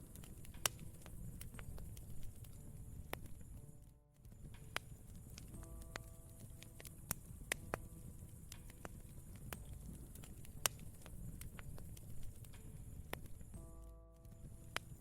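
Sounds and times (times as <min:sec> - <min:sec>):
campfire crackling: 0:00.0 - 0:15.0
soft piano notes: 0:00.0 - 0:15.0.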